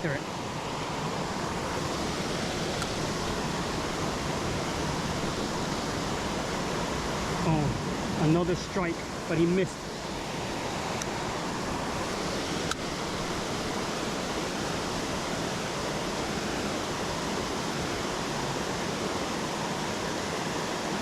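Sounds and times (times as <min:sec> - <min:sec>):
creek water running: 0:00.0 - 0:21.0.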